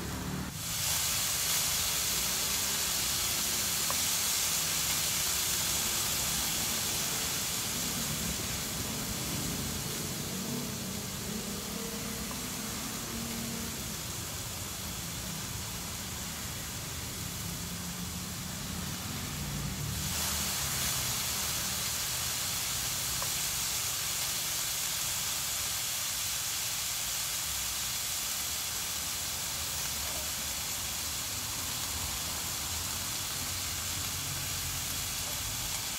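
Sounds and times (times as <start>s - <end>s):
meat sizzling on grill: 0.0s - 35.9s.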